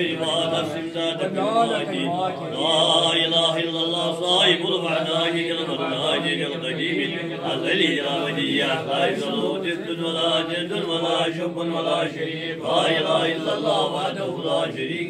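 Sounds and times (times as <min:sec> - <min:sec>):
men chanting prayers: 0:00.0 - 0:15.0.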